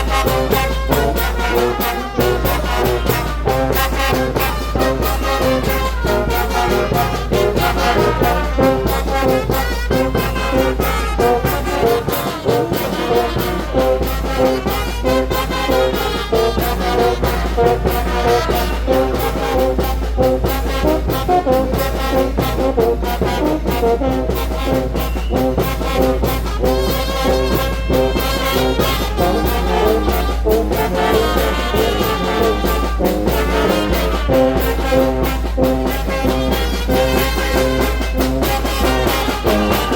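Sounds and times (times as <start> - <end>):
brass band playing: 0.0 - 39.9
percussion beat: 0.0 - 39.9.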